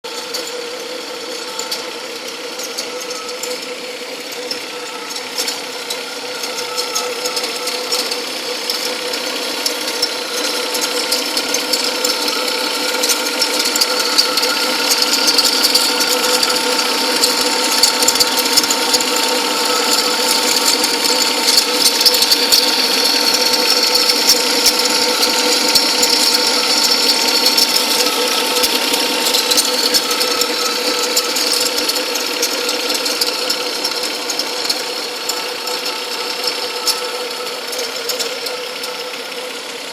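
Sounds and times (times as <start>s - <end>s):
car engine running: 0.1s - 39.9s
rapid mechanical ticking: 0.1s - 39.9s.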